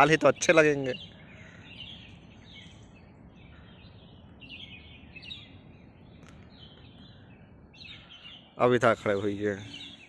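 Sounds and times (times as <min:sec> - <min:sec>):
low background rumble: 0:00.0 - 0:08.8
birds chirping faintly: 0:00.0 - 0:10.0.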